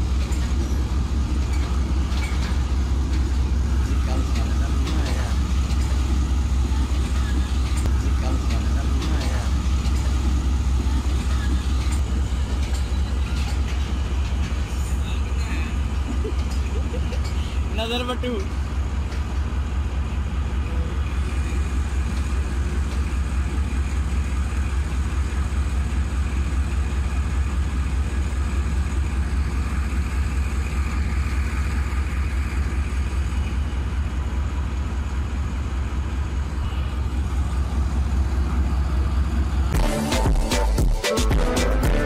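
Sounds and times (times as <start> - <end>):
locomotive engine idling: 0.0 - 42.0.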